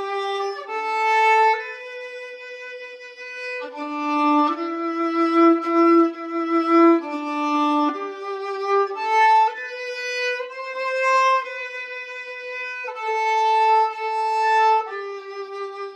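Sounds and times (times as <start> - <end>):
solo violin slow melody: 0.0 - 15.9.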